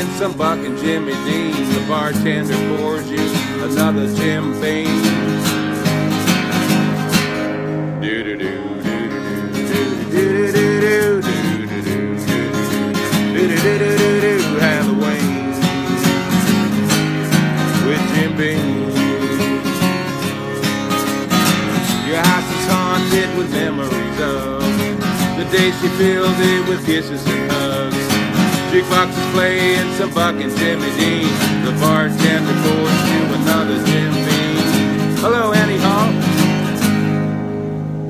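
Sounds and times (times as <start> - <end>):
wavering melody line: 0.0 - 37.4
acoustic guitar strumming: 0.0 - 38.0.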